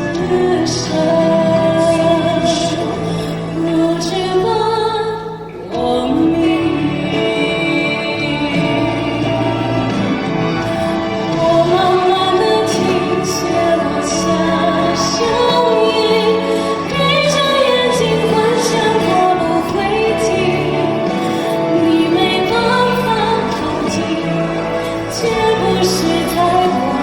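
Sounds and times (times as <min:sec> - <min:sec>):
instrumental accompaniment: 0:00.0 - 0:27.0
woman singing a slow ballad: 0:00.0 - 0:27.0.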